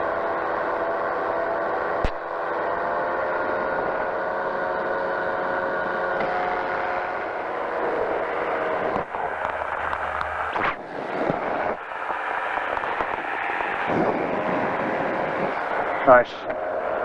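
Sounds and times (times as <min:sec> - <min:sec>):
aircraft engine and propeller drone: 0:00.0 - 0:17.0
noisy crackle: 0:00.0 - 0:17.0.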